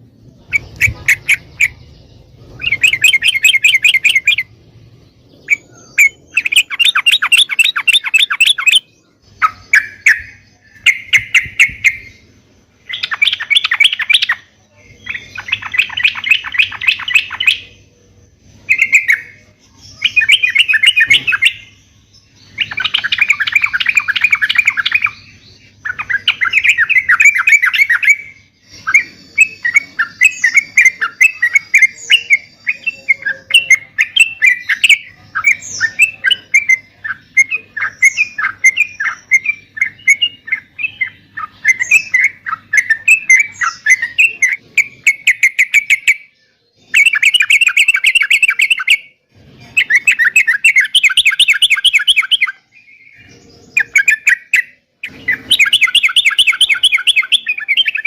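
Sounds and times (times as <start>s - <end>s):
bulbuls singing: 0.0s - 58.0s.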